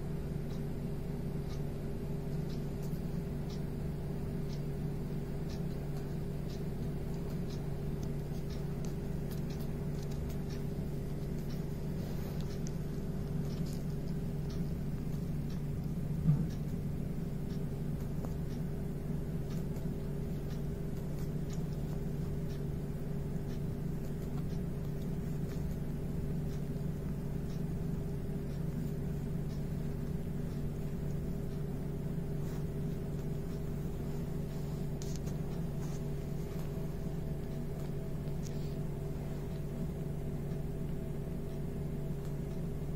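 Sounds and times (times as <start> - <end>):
low room hum: 0.0 - 42.9.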